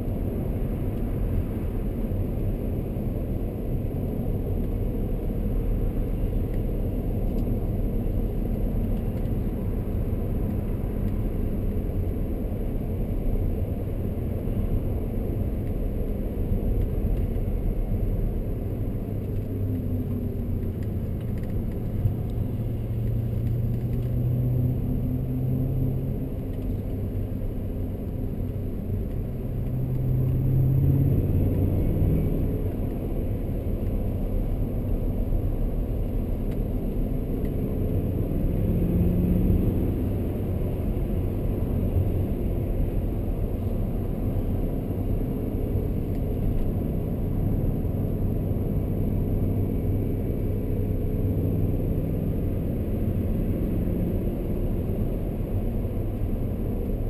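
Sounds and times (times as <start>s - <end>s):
car engine while driving: 0.0s - 57.0s
road and tyre noise: 0.0s - 57.0s.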